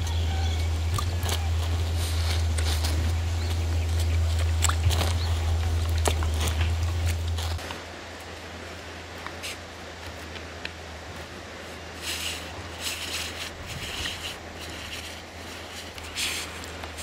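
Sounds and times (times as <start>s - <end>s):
steady low hum: 0.0s - 17.0s
rustling on cloth canvas: 1.0s - 7.7s, 8.3s - 17.0s.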